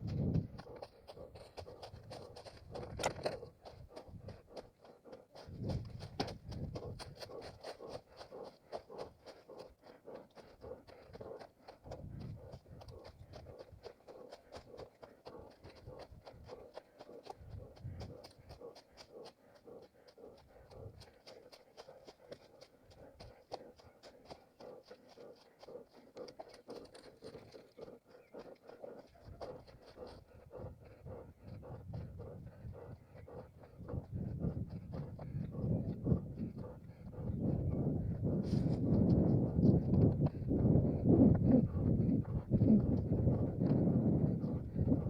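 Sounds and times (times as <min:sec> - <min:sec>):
running footsteps on forest ground: 0:00.0 - 0:45.0.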